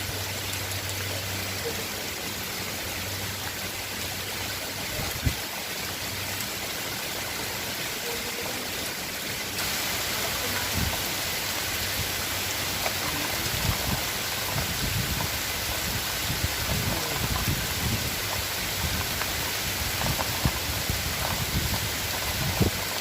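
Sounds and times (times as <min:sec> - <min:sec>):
rain pattering on hard surface: 0:00.0 - 0:23.0.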